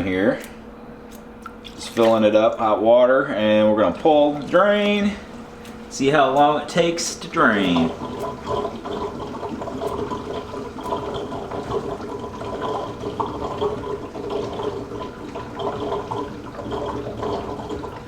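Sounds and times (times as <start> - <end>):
water draining from sink: 1.6 - 18.0.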